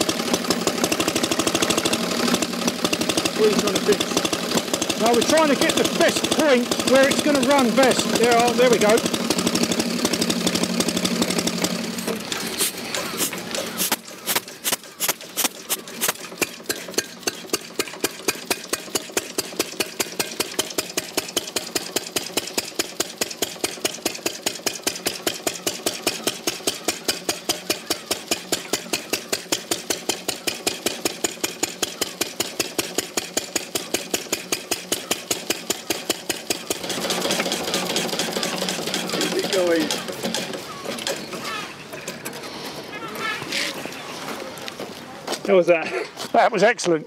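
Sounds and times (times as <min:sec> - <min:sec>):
motorcycle engine popping: 0:00.0 - 0:43.8.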